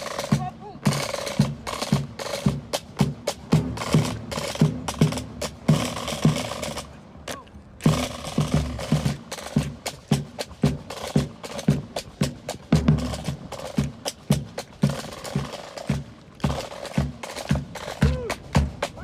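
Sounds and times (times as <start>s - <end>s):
music with steady drum beat: 0.0s - 19.0s.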